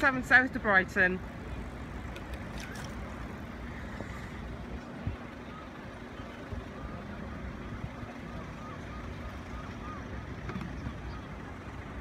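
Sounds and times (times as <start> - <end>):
faint constant hum: 0.0 - 12.0
road traffic idling rumble: 0.0 - 12.0.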